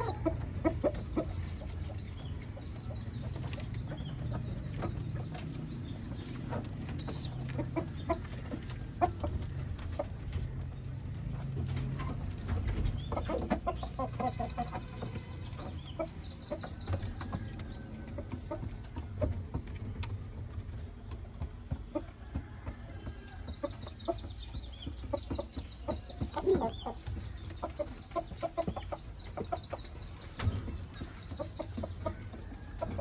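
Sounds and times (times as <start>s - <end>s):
pigeons clucking: 0.0s - 33.0s.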